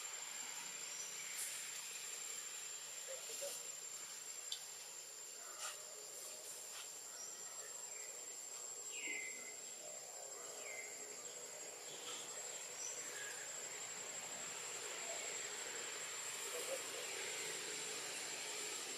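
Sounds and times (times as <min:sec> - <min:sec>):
high-pitched insect drone: 0:00.0 - 0:18.9.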